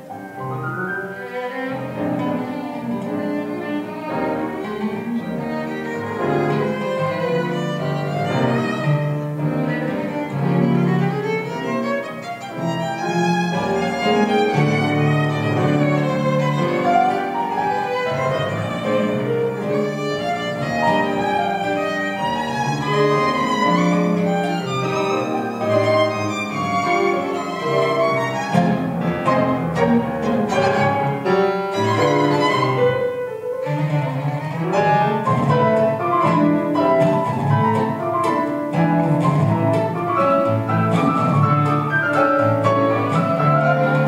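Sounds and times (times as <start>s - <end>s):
bowed violin: 0.0s - 44.0s
tango trio playing: 0.0s - 44.0s.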